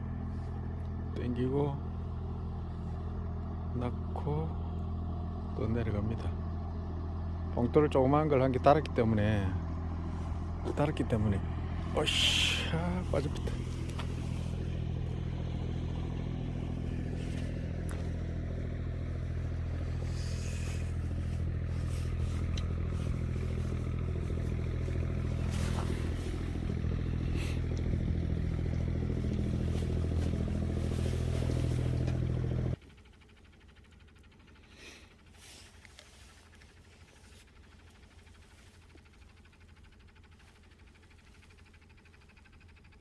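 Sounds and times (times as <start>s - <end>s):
background hum: 0.0s - 43.0s
engine idling: 0.0s - 43.0s.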